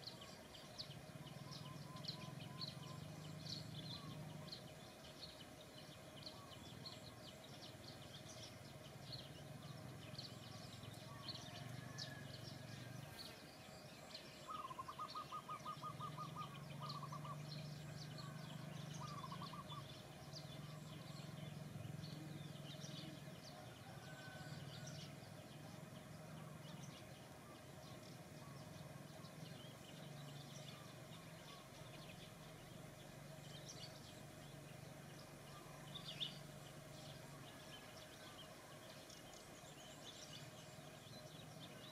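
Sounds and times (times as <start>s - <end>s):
small birds chirping: 0.0s - 41.9s
steady low hum: 0.0s - 41.9s.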